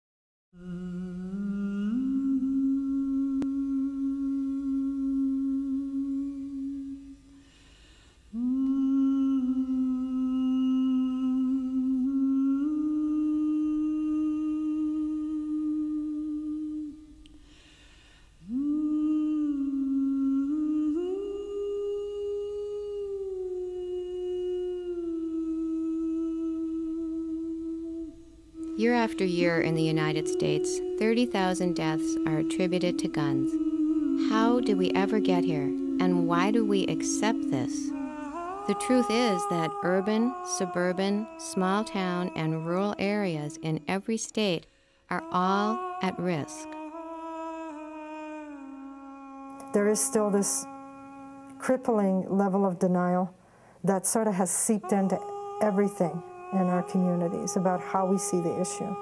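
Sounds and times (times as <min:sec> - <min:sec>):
person humming a slow melody: 0:00.6 - 0:07.4, 0:08.3 - 0:17.7, 0:18.4 - 0:52.4, 0:54.8 - 0:59.0.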